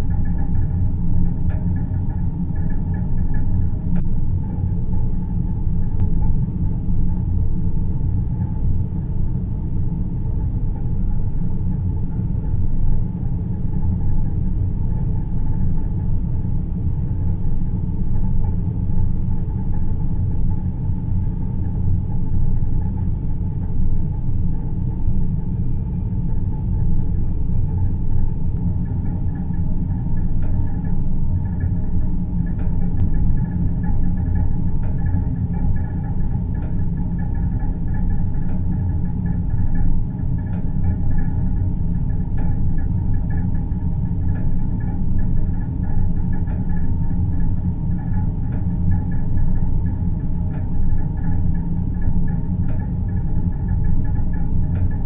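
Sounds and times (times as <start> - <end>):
faint hum: 0.0 - 55.0
low rumble: 0.0 - 55.0.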